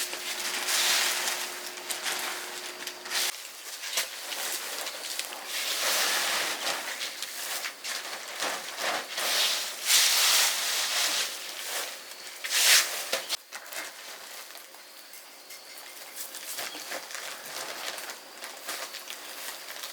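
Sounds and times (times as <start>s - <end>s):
leaves and brush rustling: 0.0s - 15.0s, 16.1s - 19.9s.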